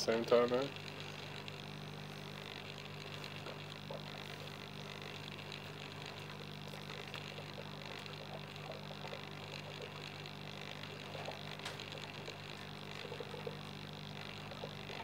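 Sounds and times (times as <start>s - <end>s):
aquarium pump humming: 0.0s - 15.0s
water bubbling: 2.6s - 15.0s.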